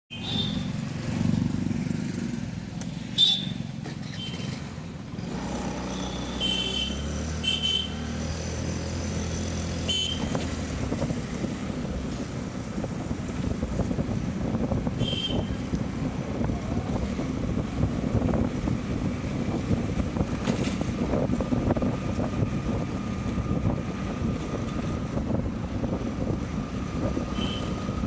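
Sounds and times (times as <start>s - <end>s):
motorcycle engine humming: 0.1s - 28.0s.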